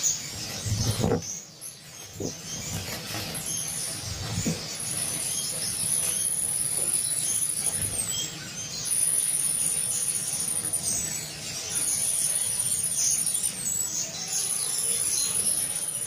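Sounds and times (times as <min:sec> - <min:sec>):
finches chirping: 0:00.0 - 0:16.0.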